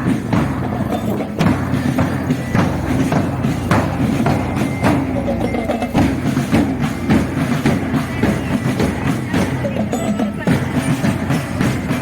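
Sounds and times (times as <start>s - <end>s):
marching drums beating: 0.0s - 12.0s.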